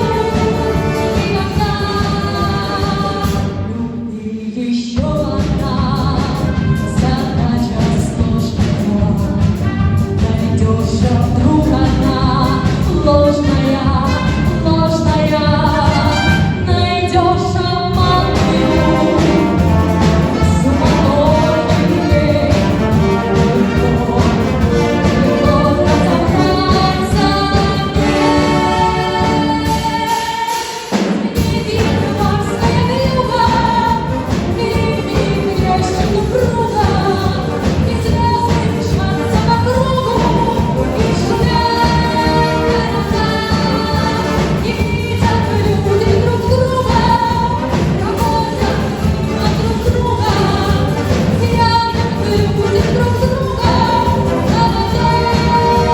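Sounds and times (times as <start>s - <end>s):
song with sung vocals: 0.0s - 55.9s.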